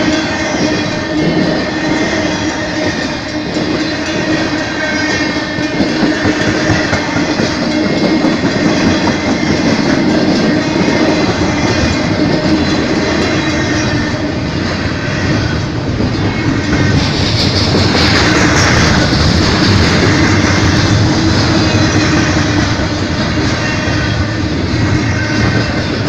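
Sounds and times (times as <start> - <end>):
train wheels clacking on rails: 0.0 - 26.0.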